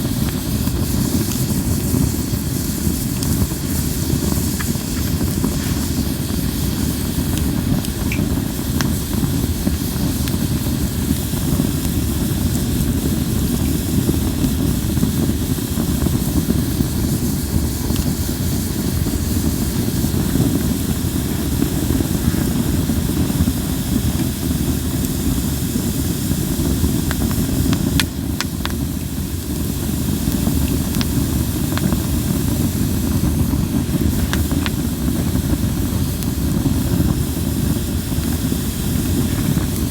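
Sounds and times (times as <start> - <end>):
campfire rumble and hiss: 0.0 - 39.9
fire crackles popping: 0.0 - 39.9.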